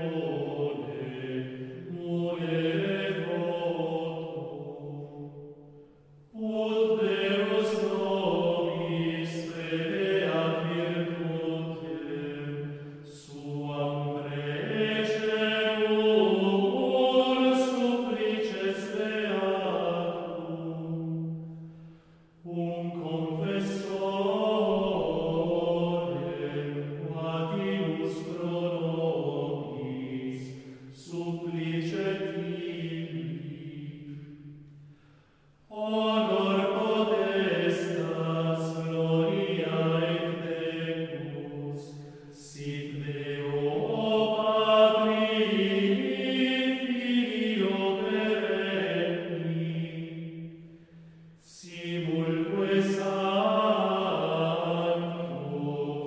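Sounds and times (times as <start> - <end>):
male choir chanting in unison: 0.0 - 34.9, 35.7 - 56.0.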